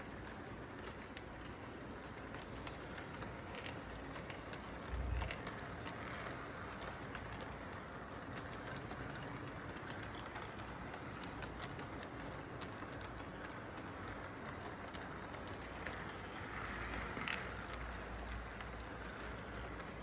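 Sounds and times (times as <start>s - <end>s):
model train rolling on track: 0.0s - 20.0s
wheels clicking over rail joints: 0.0s - 20.0s.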